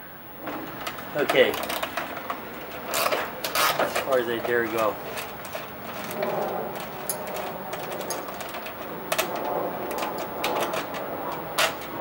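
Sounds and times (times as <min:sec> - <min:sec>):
rustling handling noise: 0:00.4 - 0:12.0.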